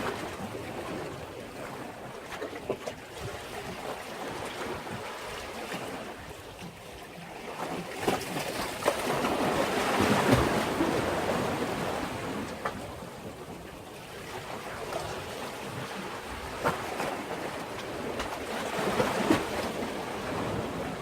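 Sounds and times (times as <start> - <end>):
sea waves washing against breakwater: 0.0 - 21.0.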